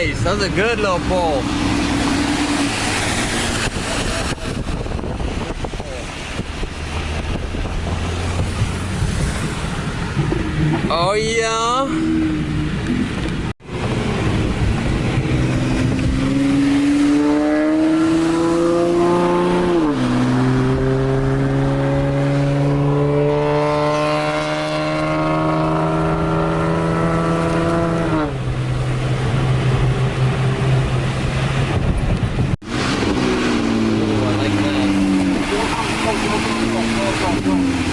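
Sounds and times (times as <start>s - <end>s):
car exhaust accelerating hard: 0.0s - 37.9s.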